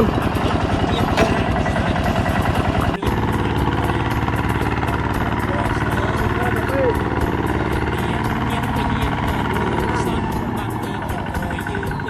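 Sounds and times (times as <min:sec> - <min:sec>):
tractor diesel engine chugging: 0:00.0 - 0:12.0.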